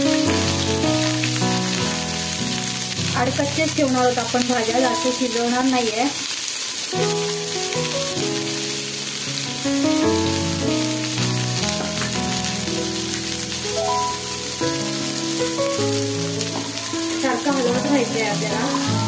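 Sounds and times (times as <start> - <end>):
background music melody: 0.0 - 5.8, 7.0 - 19.0
vegetables sizzling in pan: 0.0 - 19.0.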